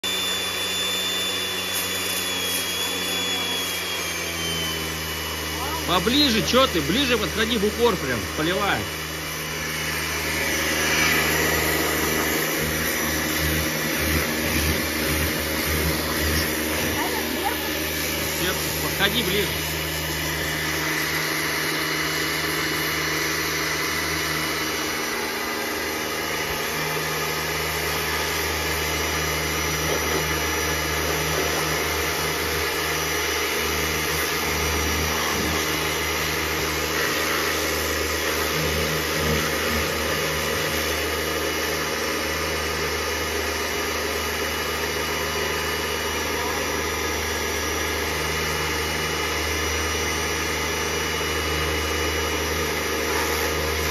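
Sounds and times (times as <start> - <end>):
pressure washer motor humming: 0.0 - 53.9.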